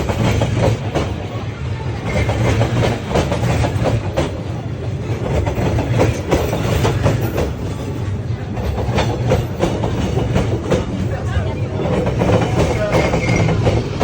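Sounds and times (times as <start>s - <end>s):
wheels clattering over rails: 0.0s - 1.4s, 2.0s - 14.0s
train rumbling: 0.0s - 14.0s.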